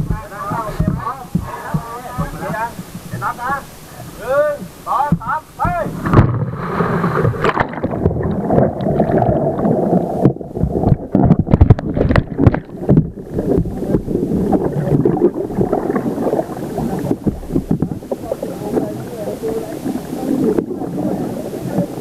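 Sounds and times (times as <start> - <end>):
underwater knocks and thumps: 0.0 - 22.0
water rushing and bubbling: 0.0 - 22.0.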